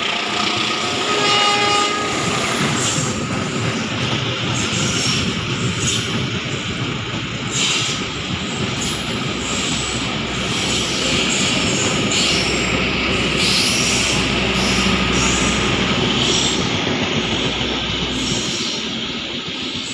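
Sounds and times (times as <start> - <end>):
train cars rumbling on rails: 0.0 - 19.9.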